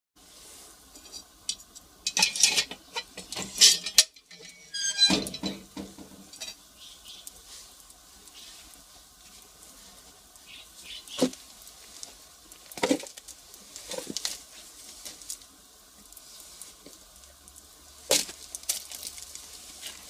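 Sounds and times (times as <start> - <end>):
firewood fire cracking and popping: 1.0 - 20.0.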